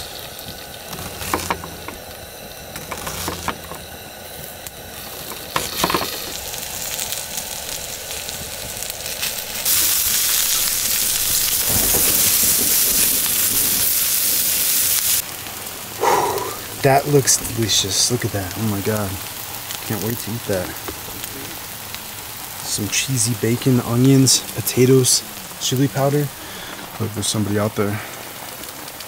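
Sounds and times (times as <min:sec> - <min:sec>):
low frying hiss: 0:00.0 - 0:29.0
onion sizzling in a skillet: 0:00.0 - 0:29.0.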